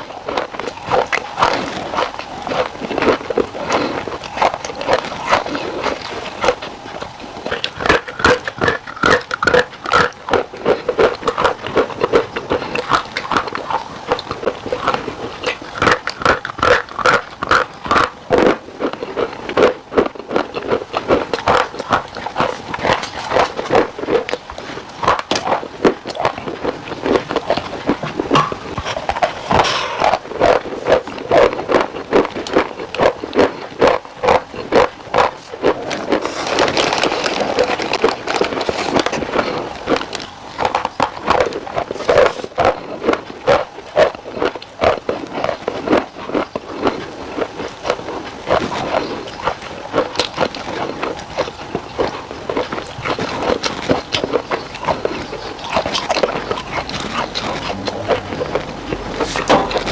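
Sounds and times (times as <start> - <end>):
crunchy food chewing: 0.0 - 59.9.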